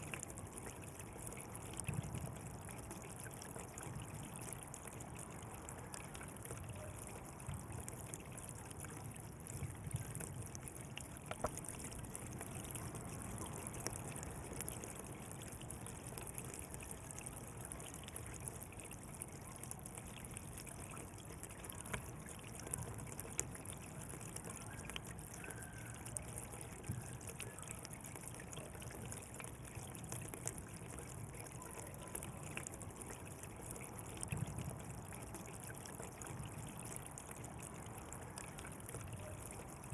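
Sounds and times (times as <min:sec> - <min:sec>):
water drips and plops: 0:00.0 - 0:39.9
water flowing in a channel: 0:00.0 - 0:39.9.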